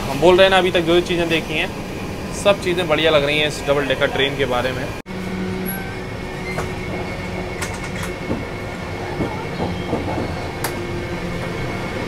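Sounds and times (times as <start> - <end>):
moving train rumbling: 0.0 - 12.0.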